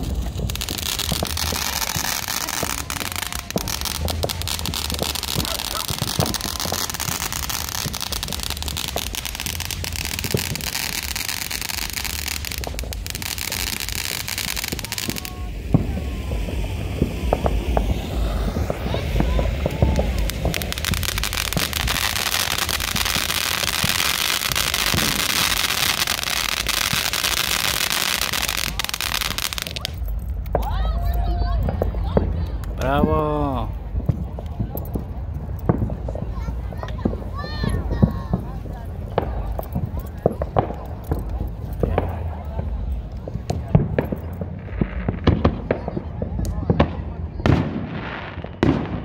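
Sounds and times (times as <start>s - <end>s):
sharp firework pops: 0.0s - 30.8s, 31.6s - 49.0s
fireworks crackling and hissing: 0.0s - 49.0s.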